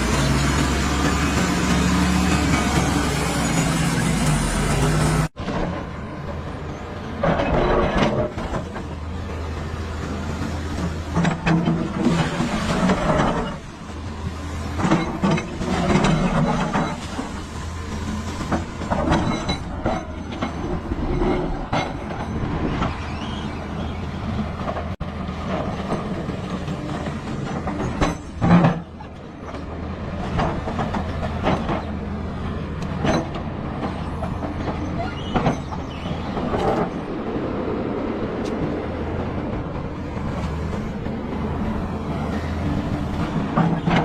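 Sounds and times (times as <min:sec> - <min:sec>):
bulldozer diesel engine drone: 0:00.0 - 0:44.0
steel tracks clanking: 0:00.0 - 0:44.0.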